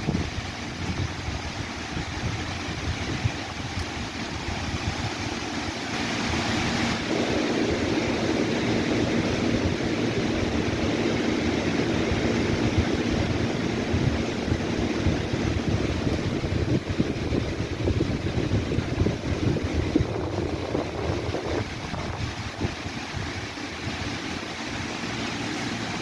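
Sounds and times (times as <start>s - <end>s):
wind buffeting microphone: 0.0s - 26.0s
wind rustling leaves: 0.0s - 26.0s.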